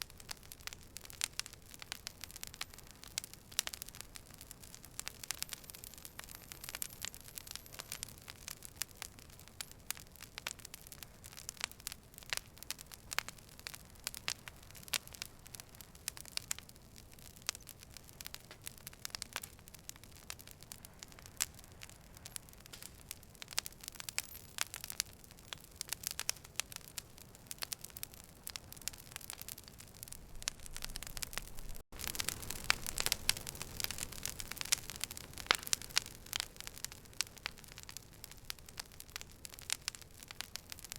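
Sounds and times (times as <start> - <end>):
campfire crackling and popping: 0.0 - 40.9
low steady hiss: 0.0 - 40.9.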